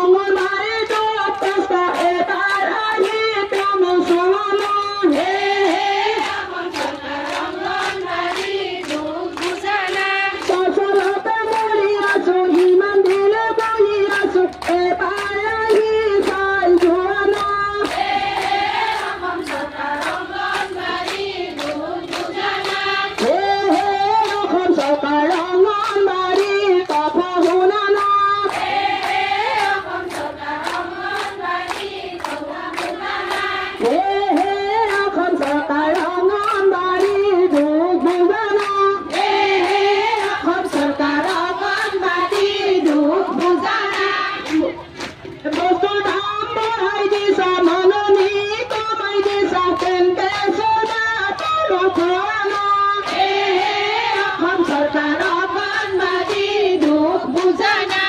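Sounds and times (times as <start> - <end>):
hand claps: 0.0 - 58.0
women singing in unison: 0.0 - 58.0.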